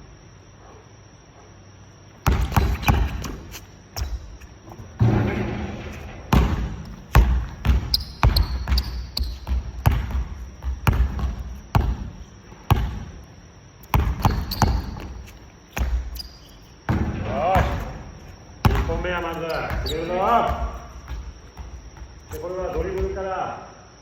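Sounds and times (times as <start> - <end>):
basketballs bouncing on gym floor: 2.2 - 5.2, 6.3 - 23.4.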